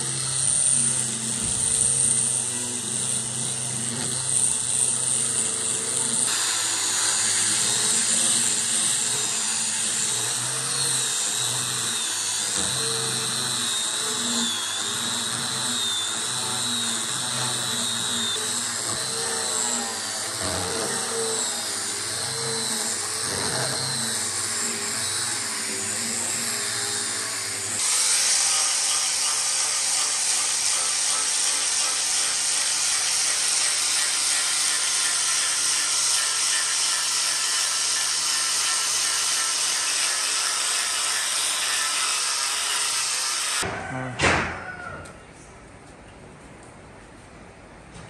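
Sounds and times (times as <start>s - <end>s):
high-pitched machining noise: 0.0s - 43.6s
power tool motor wavering: 0.0s - 43.7s.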